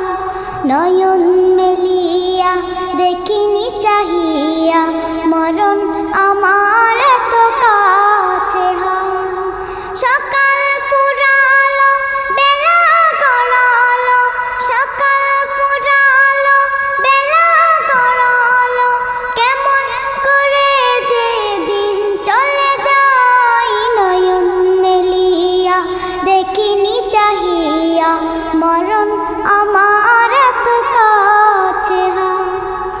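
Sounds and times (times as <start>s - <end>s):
girl singing devotional song: 0.0s - 33.0s.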